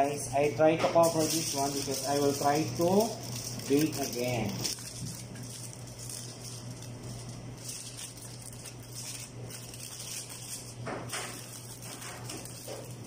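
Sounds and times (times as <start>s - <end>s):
aluminium foil crinkling: 0.4s - 13.0s.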